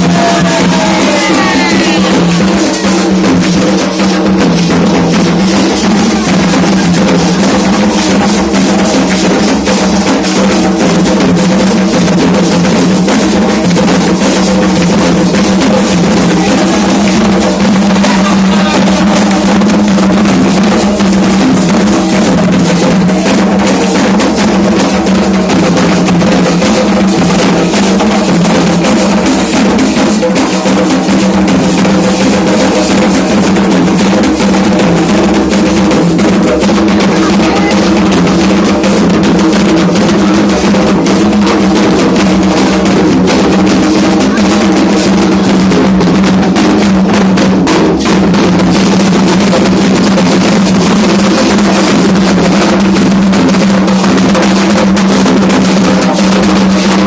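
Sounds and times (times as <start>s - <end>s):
hand drums drumming: 0.0s - 57.0s.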